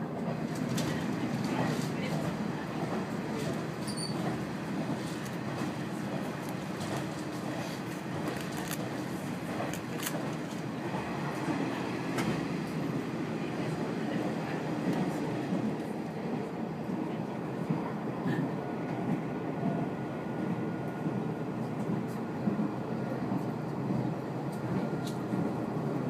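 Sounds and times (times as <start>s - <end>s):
railcar engine and wheels rumbling: 0.0s - 26.0s.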